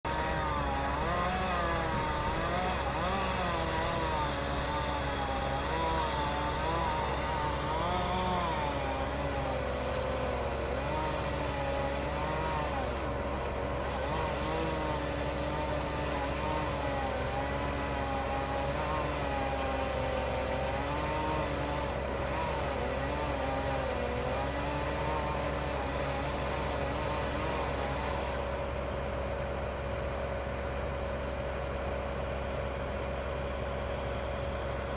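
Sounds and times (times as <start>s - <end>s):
chainsaw cutting wood: 0.1s - 29.5s.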